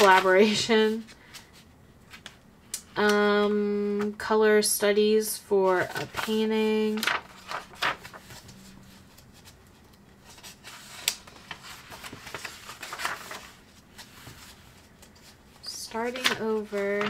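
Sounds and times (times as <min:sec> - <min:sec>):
paper pages rustling: 0:00.0 - 0:02.4, 0:05.7 - 0:17.0.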